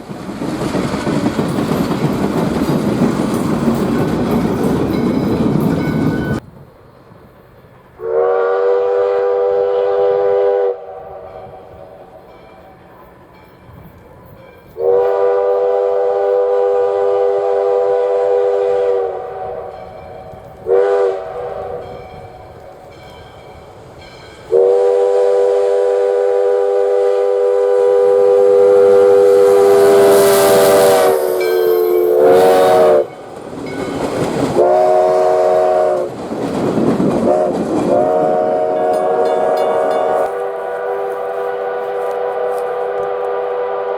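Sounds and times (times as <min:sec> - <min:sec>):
loud rumble of passing train: 0:00.0 - 0:43.9
steam locomotive chime whistle: 0:04.9 - 0:06.4, 0:07.9 - 0:34.0, 0:34.6 - 0:36.1, 0:37.3 - 0:43.9.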